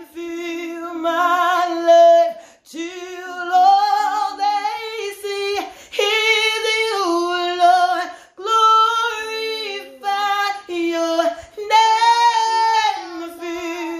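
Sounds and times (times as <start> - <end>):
woman singing a cappella: 0.0 - 13.9.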